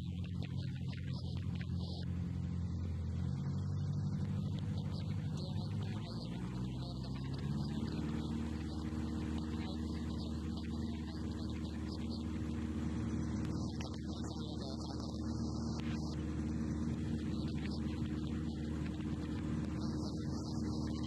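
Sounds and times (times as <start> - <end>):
aircraft piston engine and propeller droning: 0.0 - 21.0.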